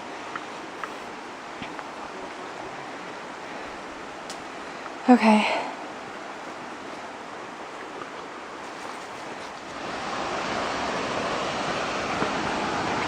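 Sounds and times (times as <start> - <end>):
rushing creek water: 0.0 - 13.0.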